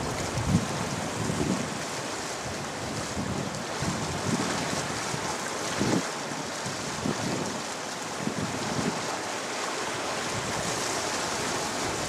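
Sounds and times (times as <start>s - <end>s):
wind buffeting microphone: 0.0s - 9.1s, 10.2s - 12.0s
river water and waves: 0.0s - 12.0s.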